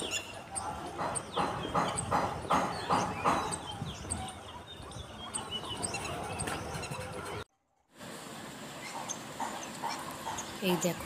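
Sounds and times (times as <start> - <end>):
small birds chirping: 0.0 - 7.4, 8.8 - 11.0.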